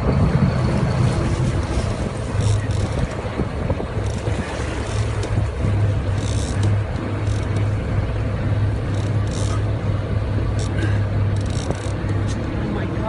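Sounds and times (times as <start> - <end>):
boat engine droning: 0.0 - 13.0
water noise: 0.0 - 13.0
wind: 0.0 - 13.0.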